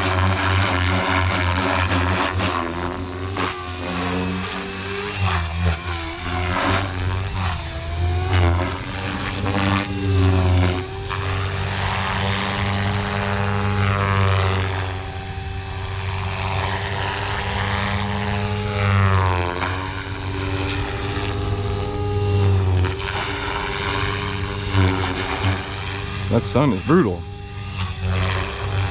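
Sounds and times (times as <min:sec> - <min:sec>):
rc helicopter rotor and motor whine: 0:00.0 - 0:28.9.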